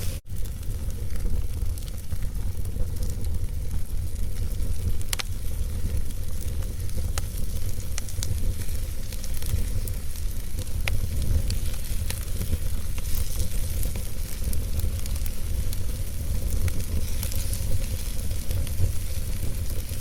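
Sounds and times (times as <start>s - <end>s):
logs burning in a fireplace: 0.0s - 20.0s.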